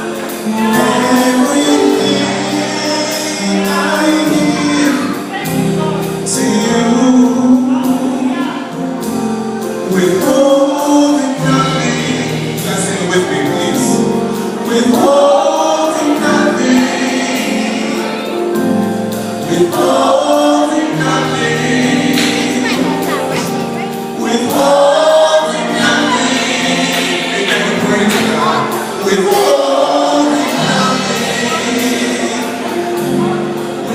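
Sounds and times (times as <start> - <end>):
band playing keyboard bass drums: 0.0 - 33.9
choir singing: 0.0 - 33.9.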